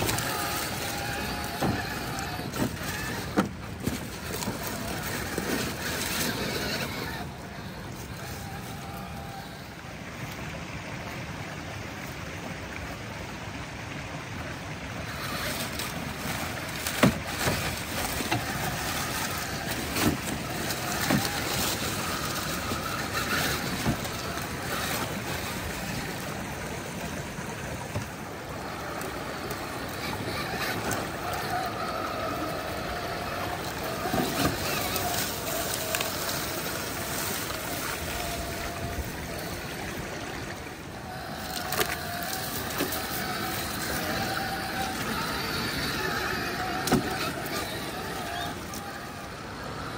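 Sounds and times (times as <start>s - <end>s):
rc car motor whining: 0.0s - 10.4s, 15.0s - 49.9s
creek rushing: 0.0s - 49.9s.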